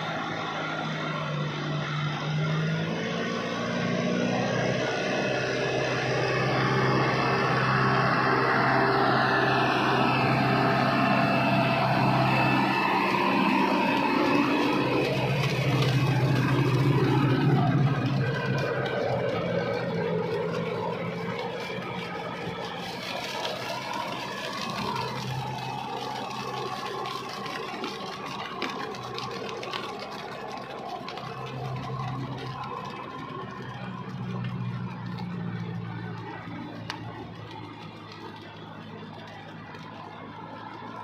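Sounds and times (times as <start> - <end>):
tractor diesel engine under load: 0.0 - 41.0.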